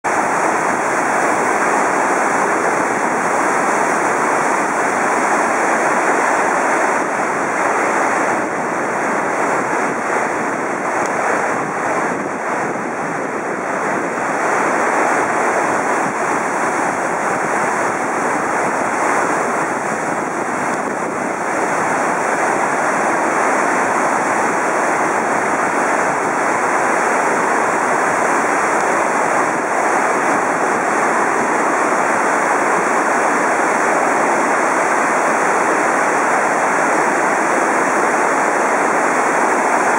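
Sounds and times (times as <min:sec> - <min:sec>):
floodwater rushing through sluice gates: 0:00.1 - 0:39.9.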